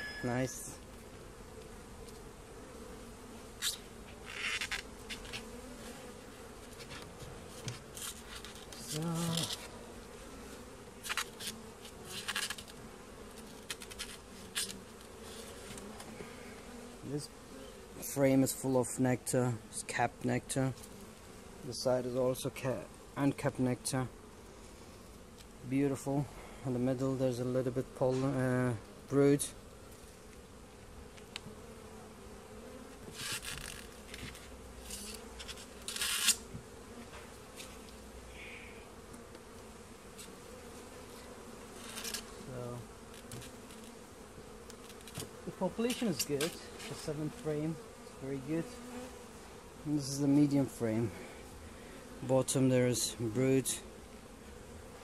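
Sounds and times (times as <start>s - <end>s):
honeybees buzzing: 0.0s - 55.0s
scraping of hive frames: 0.0s - 55.0s.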